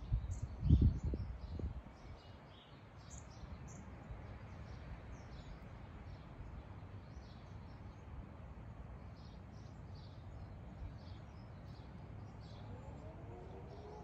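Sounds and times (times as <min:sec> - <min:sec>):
small birds chirping: 0:00.0 - 0:08.2, 0:08.8 - 0:14.0.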